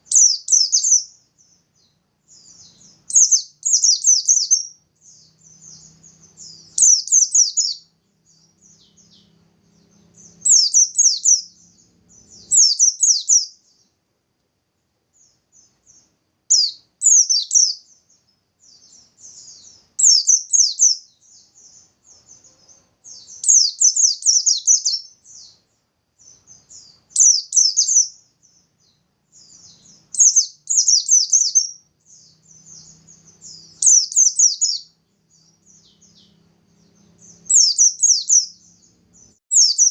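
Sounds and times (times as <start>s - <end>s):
bird chirping trills: 0.0s - 14.0s, 15.1s - 39.9s
soft bird twittering: 0.0s - 14.0s, 15.1s - 39.9s.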